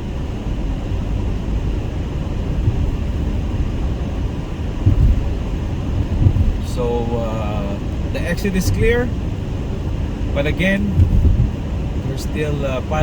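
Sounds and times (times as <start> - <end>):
car tyres and engine rumble: 0.0 - 13.0
short low bumps: 1.1 - 13.0.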